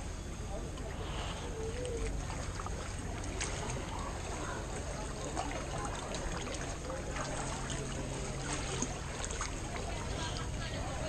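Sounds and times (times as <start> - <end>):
water sloshing and splashing: 0.8 - 11.0.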